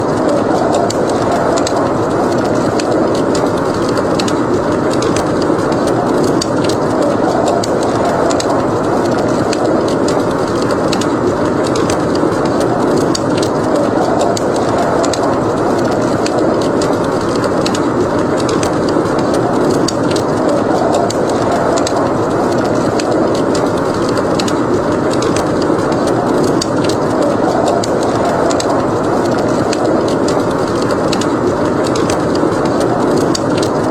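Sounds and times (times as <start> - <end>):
blizzard wind rushing: 0.0 - 33.9
fireplace crackling and popping: 0.0 - 33.9.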